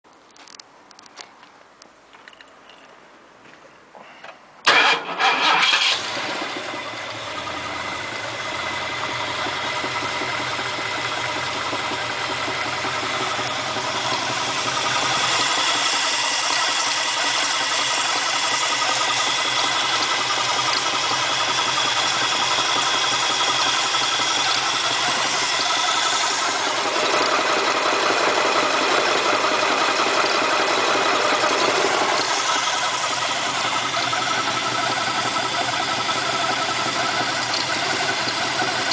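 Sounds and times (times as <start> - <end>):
engine idling with knock: 6.2 - 38.9.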